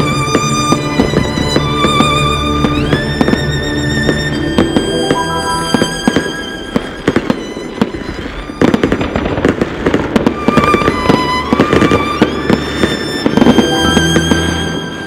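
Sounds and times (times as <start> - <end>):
violin music from radio: 0.0 - 9.0, 10.4 - 15.0
fireworks bangs and crackles: 0.0 - 15.0.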